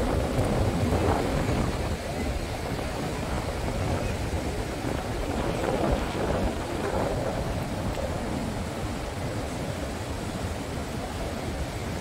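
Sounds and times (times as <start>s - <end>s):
surf washing on the beach: 0.0s - 12.0s
wind buffeting the microphone: 0.0s - 12.0s.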